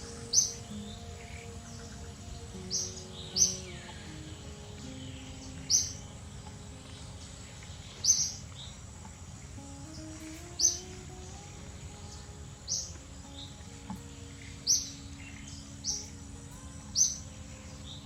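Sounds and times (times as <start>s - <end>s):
slow held background music: 0.0s - 18.0s.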